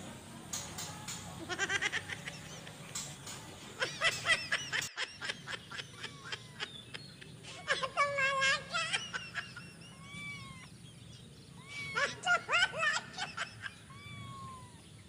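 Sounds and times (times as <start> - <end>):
kittens mewing: 0.9 - 15.0.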